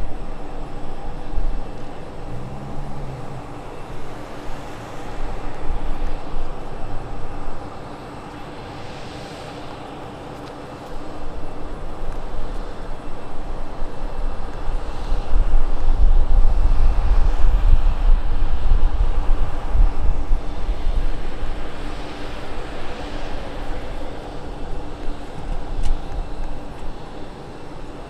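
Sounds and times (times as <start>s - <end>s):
airplane engines rumbling: 0.0s - 28.0s.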